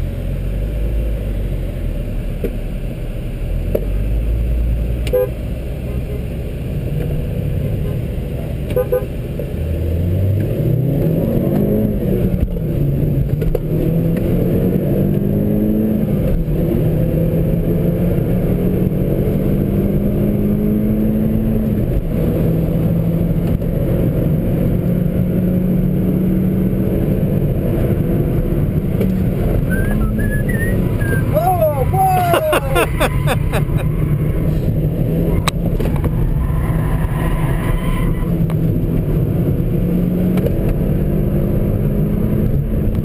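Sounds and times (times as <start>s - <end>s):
road and tyre noise: 0.0s - 43.0s
car engine pulling hard: 5.5s - 43.0s.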